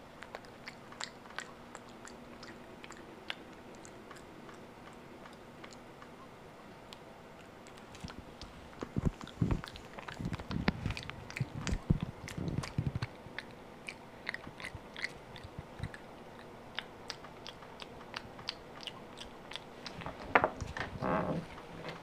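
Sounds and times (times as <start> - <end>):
monkey chewing wetly: 0.2 - 5.9, 7.5 - 20.3.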